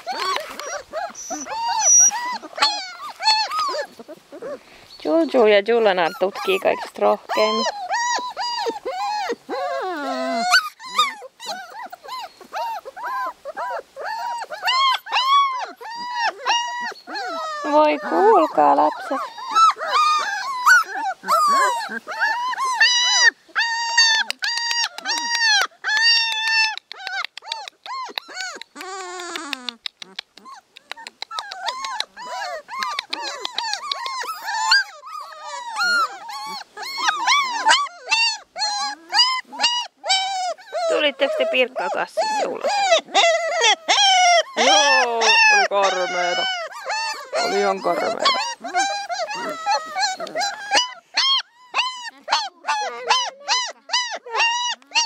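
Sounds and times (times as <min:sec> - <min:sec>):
puppies whining: 0:00.0 - 0:55.0.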